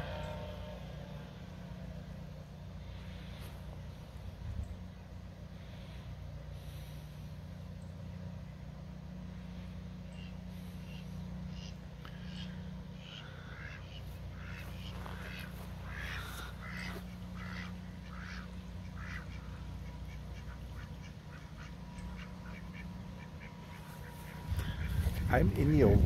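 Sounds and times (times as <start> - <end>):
ducks quacking: 0.0 - 4.0, 4.9 - 26.0
steady low rumble: 0.0 - 26.0.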